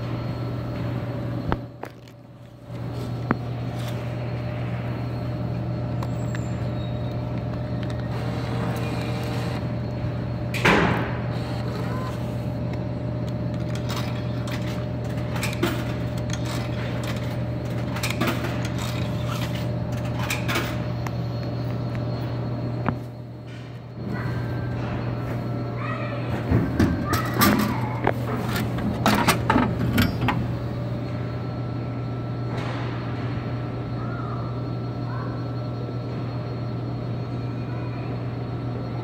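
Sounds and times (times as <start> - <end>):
vending machine humming: 0.0 - 39.0.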